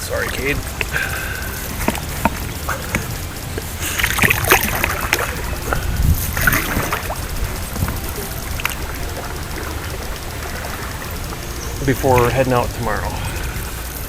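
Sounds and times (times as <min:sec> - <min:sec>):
paddle splashes: 0:00.0 - 0:14.0
steady low rumble: 0:00.0 - 0:14.0.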